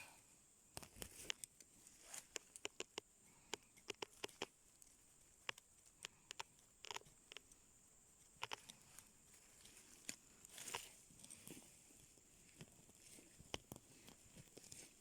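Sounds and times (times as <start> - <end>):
small clicks and snaps: 0.7 - 7.6, 8.2 - 11.6, 12.5 - 14.9
rustling in undergrowth: 0.9 - 15.0.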